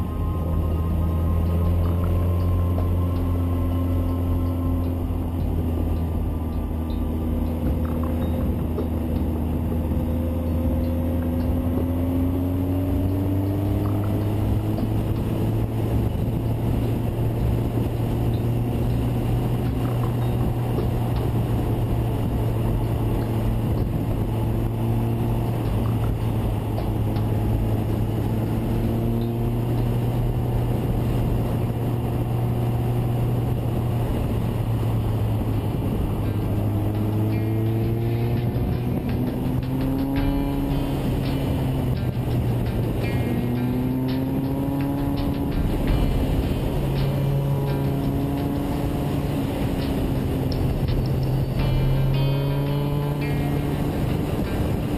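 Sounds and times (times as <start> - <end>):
motorcycle engine cruising: 0.0 - 54.9
wind noise on microphone: 0.0 - 54.9.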